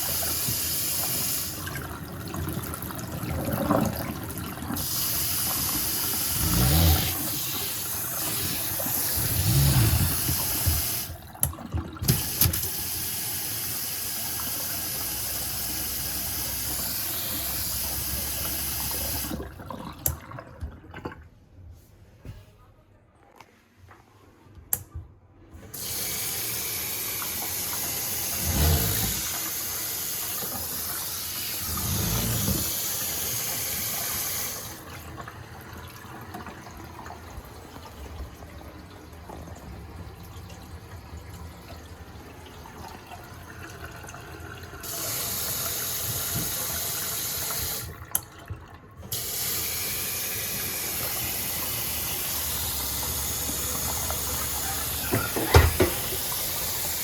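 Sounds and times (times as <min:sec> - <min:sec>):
faucet water running into basin: 0:00.0 - 0:20.9, 0:25.7 - 0:57.0.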